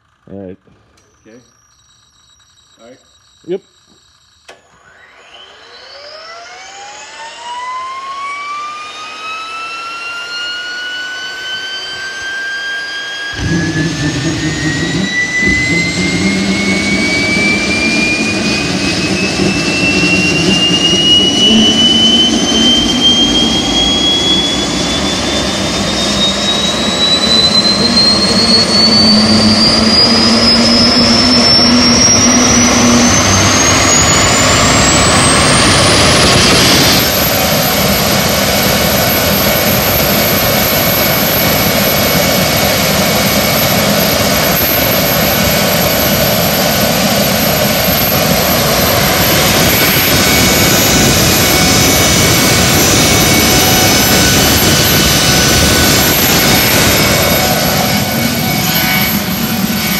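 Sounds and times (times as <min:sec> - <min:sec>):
jet turbine whine: 0:00.0 - 0:59.9
turbine igniting with roar: 0:04.5 - 0:59.9.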